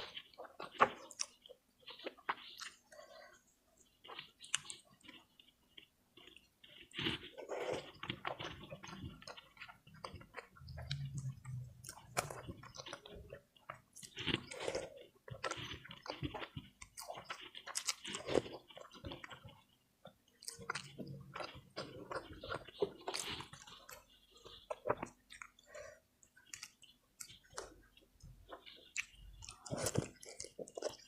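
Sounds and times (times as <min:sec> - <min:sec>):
chewing and wet mouth sounds: 0:00.0 - 0:31.0.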